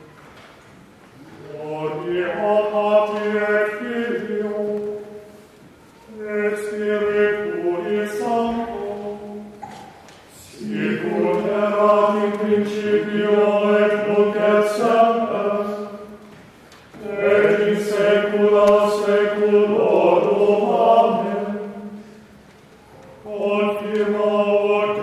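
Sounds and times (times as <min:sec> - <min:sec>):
choir singing chant: 0:01.3 - 0:09.8, 0:10.4 - 0:16.4, 0:17.0 - 0:22.3, 0:23.1 - 0:25.0.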